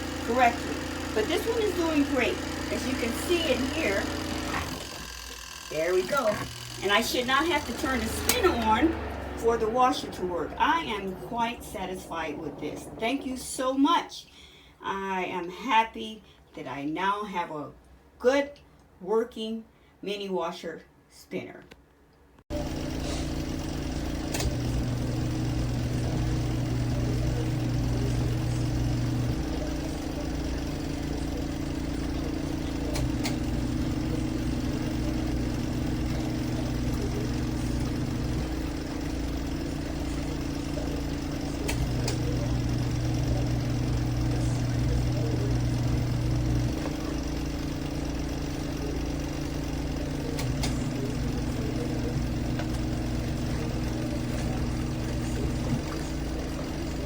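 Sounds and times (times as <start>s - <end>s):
washing machine motor running: 0.0s - 14.0s, 22.5s - 57.0s.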